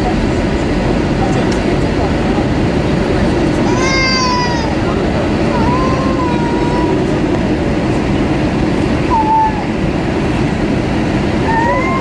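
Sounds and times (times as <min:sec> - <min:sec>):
airplane cabin roar in flight: 0:00.0 - 0:12.0.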